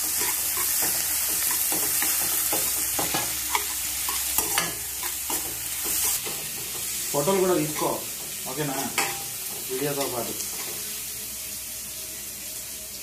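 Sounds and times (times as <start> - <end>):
steel spoon scraping a pan: 0.0 - 11.2
onions sizzling in hot oil: 0.0 - 13.0.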